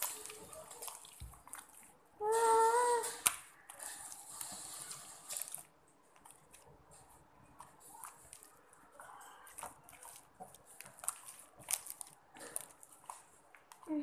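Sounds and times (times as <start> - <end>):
slime squelching: 0.0 - 14.0.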